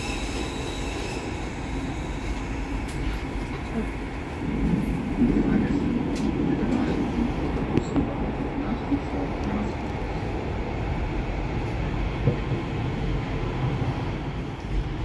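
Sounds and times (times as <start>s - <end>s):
rumble of wheels on rails: 0.0s - 15.0s.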